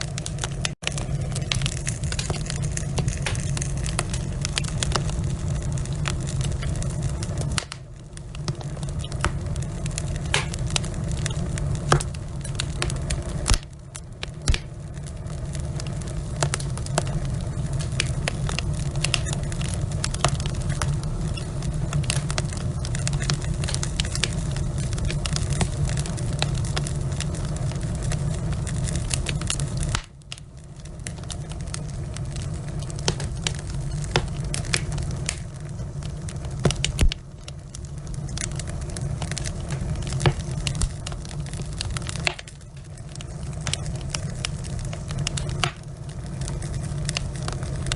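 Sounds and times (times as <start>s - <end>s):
logs crackling and popping: 0.0s - 47.9s
low rumble of fire: 0.0s - 47.9s.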